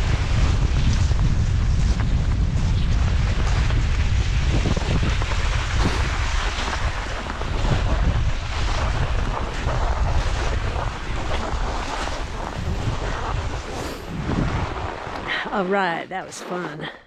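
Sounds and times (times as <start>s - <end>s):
wind buffeting microphone: 0.0s - 15.7s
skis hissing and scraping on snow: 0.1s - 16.8s.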